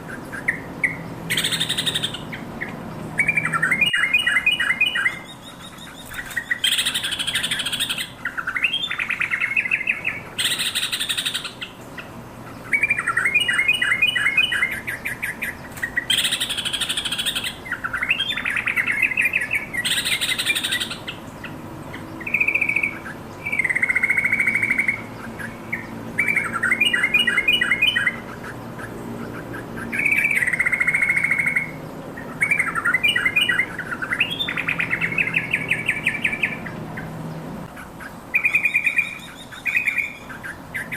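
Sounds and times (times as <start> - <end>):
bird singing warbled phrases: 0.0 - 40.9.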